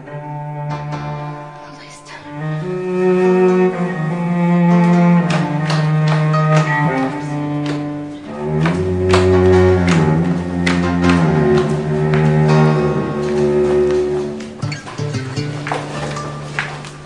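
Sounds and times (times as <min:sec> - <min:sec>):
low bowed strings score: 0:00.0 - 0:17.0.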